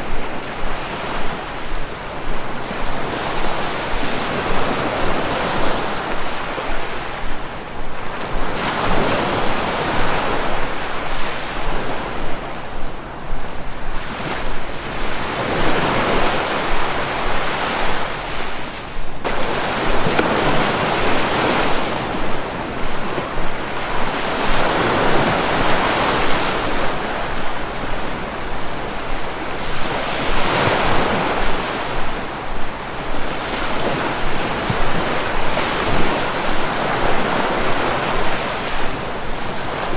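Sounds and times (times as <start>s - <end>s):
sea waves breaking ashore: 0.0s - 39.9s.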